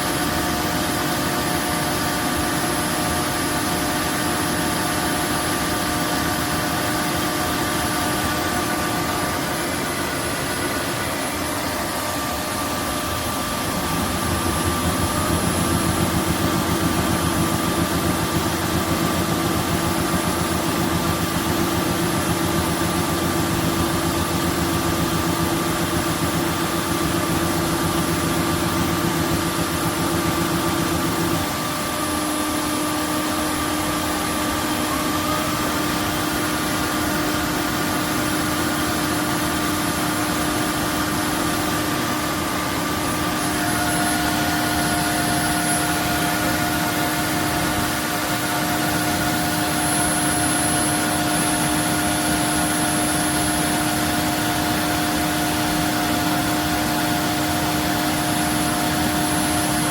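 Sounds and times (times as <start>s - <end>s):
vacuum motor humming: 3.0s - 59.9s.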